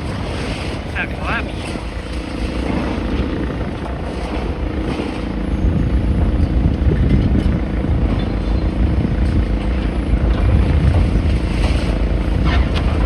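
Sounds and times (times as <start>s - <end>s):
low engine rumble: 0.0s - 13.0s
wind buffeting microphone: 0.0s - 13.0s.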